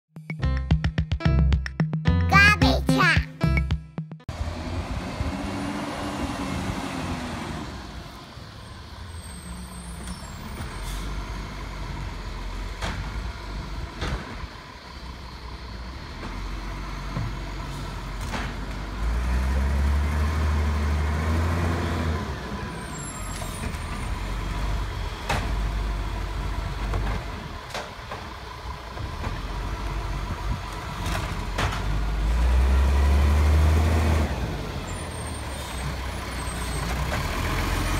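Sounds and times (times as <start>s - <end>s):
garbage truck diesel engine revving: 4.3s - 37.9s.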